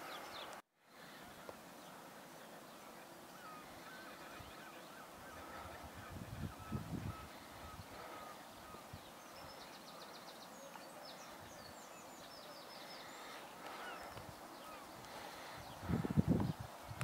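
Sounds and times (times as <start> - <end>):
faint lower bird calls: 0.0 - 17.0.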